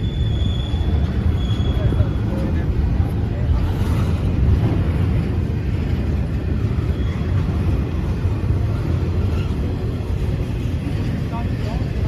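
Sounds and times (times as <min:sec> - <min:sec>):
train passing with low rumble: 0:00.0 - 0:12.0.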